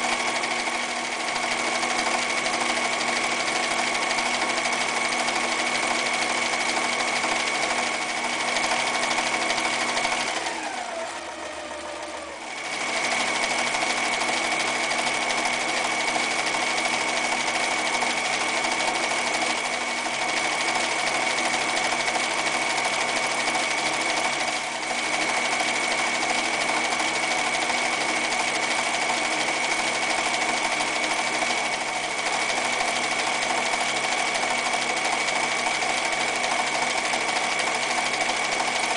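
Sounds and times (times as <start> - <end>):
electric sewing machine whine: 0.0 - 38.9.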